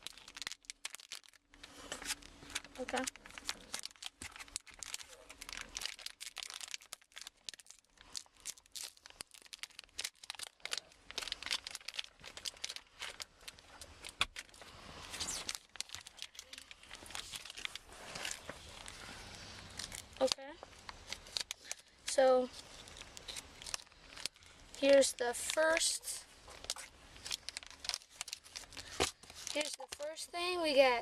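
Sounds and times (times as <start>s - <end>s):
wrapper tearing and crinkling: 0.0s - 30.2s.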